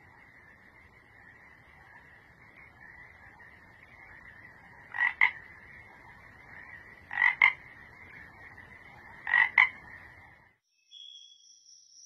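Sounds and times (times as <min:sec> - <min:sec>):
frog croaking: 0:00.0 - 0:10.4.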